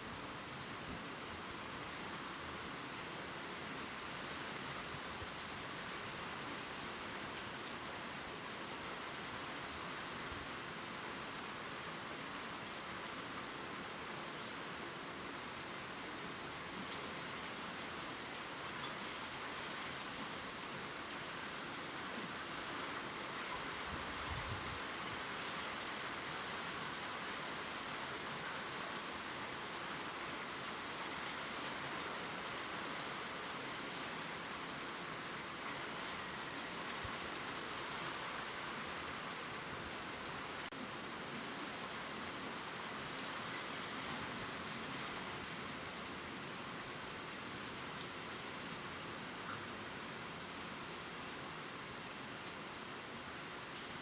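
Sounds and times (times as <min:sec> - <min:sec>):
rain pattering on leaves: 0:02.0 - 0:13.7, 0:15.5 - 0:54.0.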